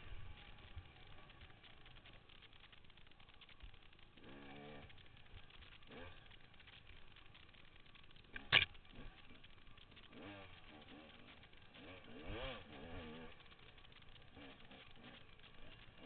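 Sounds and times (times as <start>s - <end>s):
faint dirt bike engine revving: 0.0s - 16.0s.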